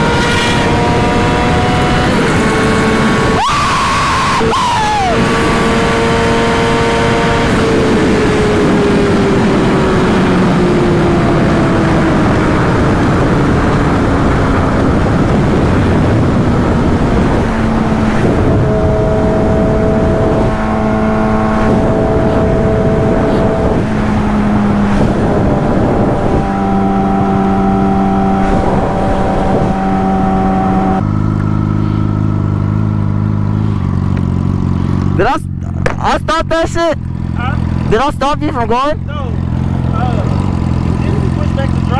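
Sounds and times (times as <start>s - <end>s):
vehicle engine running hard: 0.0s - 41.9s.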